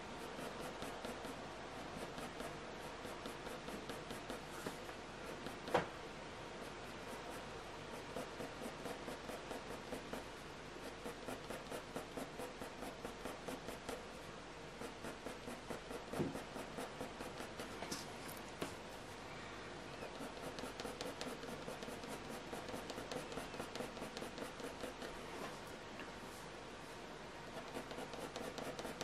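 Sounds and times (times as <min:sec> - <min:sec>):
pencil scratching on paper: 0:00.0 - 0:05.8, 0:06.6 - 0:18.0, 0:20.0 - 0:25.2, 0:27.5 - 0:29.0.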